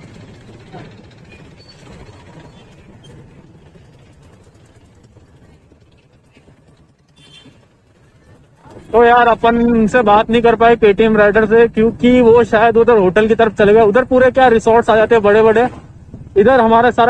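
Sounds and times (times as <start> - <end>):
motorcycle engines in slow traffic: 0.0 - 17.0.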